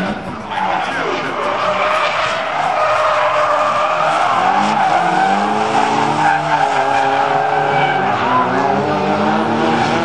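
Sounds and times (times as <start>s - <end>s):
car engines revving: 0.0s - 10.0s
tyres squealing on asphalt: 0.4s - 9.0s.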